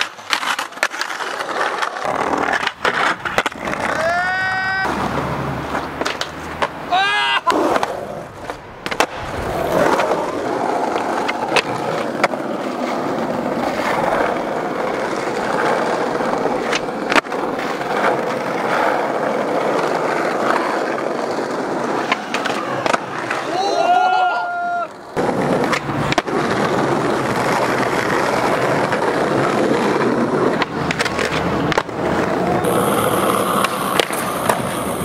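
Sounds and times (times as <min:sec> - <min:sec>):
skateboard clacks: 0:00.0 - 0:35.0
skateboard wheels rolling on concrete: 0:00.0 - 0:35.0.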